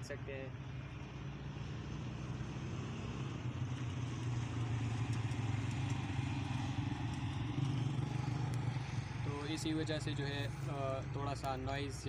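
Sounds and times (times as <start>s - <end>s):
motorcycle: 0.0s - 12.0s
passing vehicles hum: 0.0s - 12.0s.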